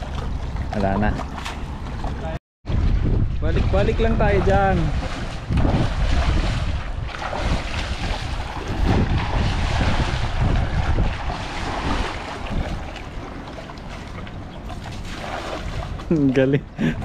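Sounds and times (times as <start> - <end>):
water sloshing and splashing: 0.0 - 16.5
wind rumbling on microphone: 0.0 - 17.0.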